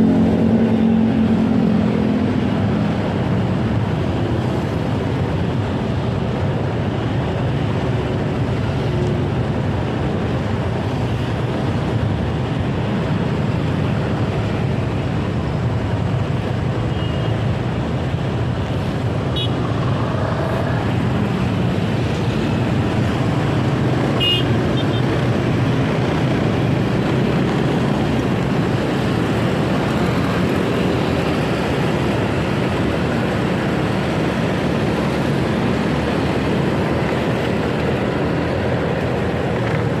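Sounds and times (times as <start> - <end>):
road and traffic noise: 0.0 - 40.0.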